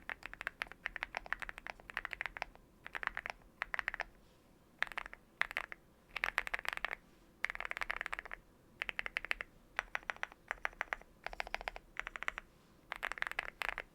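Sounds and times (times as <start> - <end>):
mechanical keyboard typing: 0.0 - 4.1, 4.8 - 13.9.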